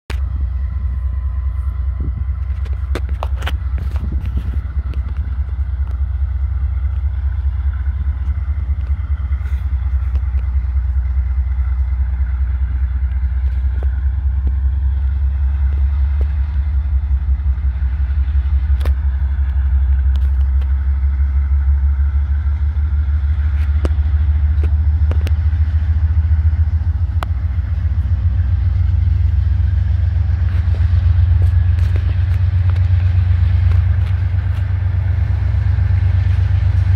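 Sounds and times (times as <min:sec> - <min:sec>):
diesel locomotive rumbling: 0:00.0 - 0:36.9.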